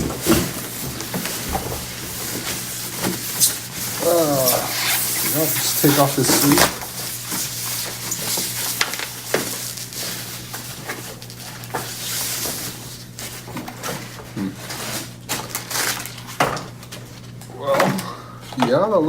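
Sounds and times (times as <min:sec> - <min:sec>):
packaging rustling and scraping: 0:00.0 - 0:18.6.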